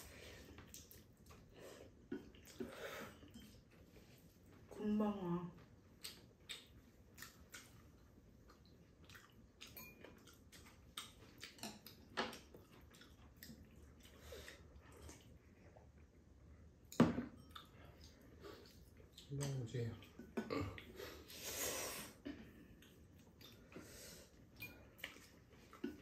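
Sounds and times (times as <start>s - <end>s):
chewing and wet mouth sounds: 0.4s - 4.7s, 5.6s - 21.4s, 22.0s - 26.0s.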